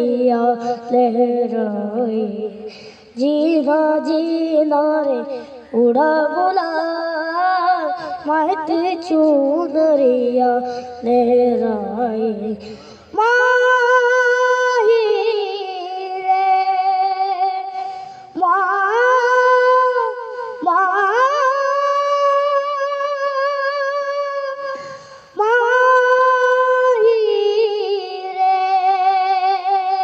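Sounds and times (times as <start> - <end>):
boy singing into microphone: 0.0 - 30.0.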